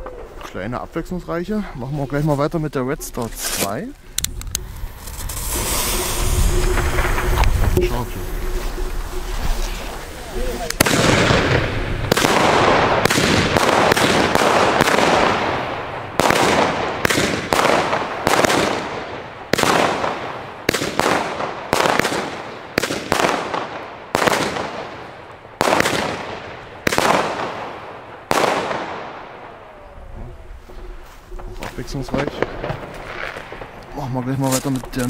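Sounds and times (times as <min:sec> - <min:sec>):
firework shots firing: 0:04.2 - 0:29.8, 0:31.4 - 0:34.5.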